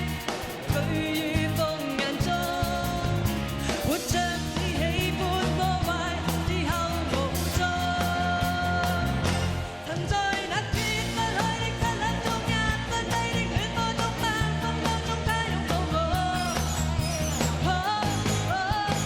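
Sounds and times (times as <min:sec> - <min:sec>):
drums steady beat: 0:00.0 - 0:19.0
live band playing: 0:00.0 - 0:19.0
person singing: 0:00.0 - 0:19.0.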